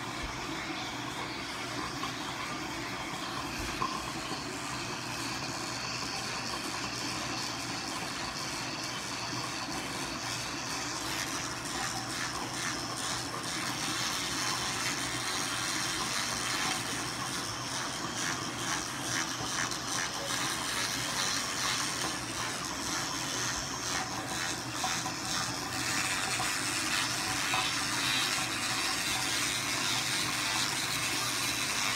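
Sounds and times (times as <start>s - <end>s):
water running hiss: 0.0s - 31.9s.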